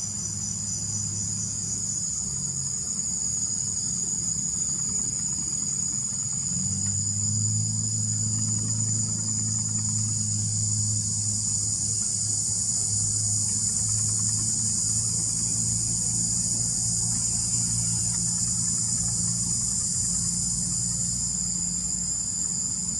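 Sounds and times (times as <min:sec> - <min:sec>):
low hum: 0:00.0 - 0:22.9
shrill insect chorus: 0:00.0 - 0:22.9.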